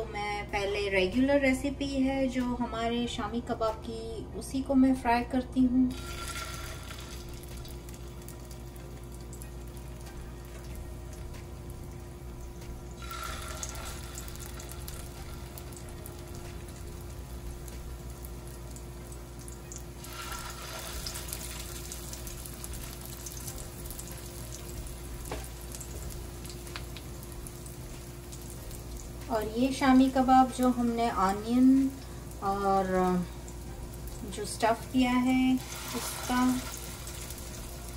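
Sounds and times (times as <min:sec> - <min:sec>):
patties sizzling in hot oil: 0:05.9 - 0:37.9.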